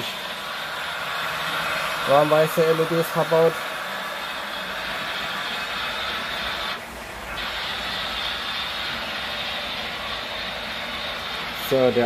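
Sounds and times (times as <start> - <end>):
model trains rolling hum: 0.0 - 12.0.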